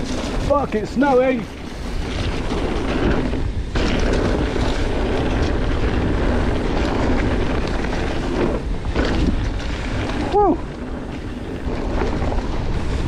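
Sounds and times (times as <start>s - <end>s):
bike rattles and knocks: 0.0s - 13.0s
bike tyres rolling on dirt trail: 0.0s - 13.0s
wind on camera microphone: 0.0s - 13.0s.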